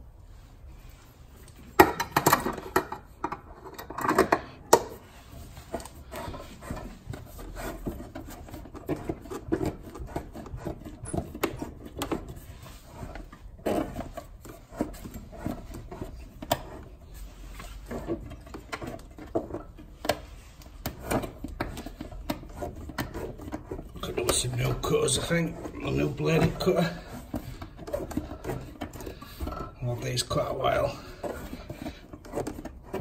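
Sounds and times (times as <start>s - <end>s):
pipe cutter scraping and clicking: 1.4s - 33.0s.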